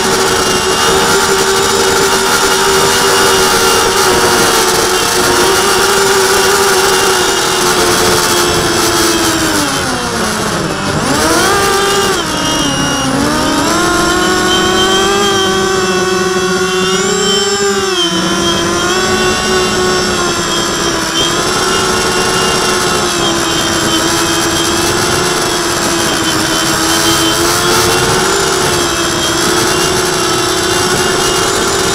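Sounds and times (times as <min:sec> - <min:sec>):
drone motors whining: 0:00.0 - 0:31.9.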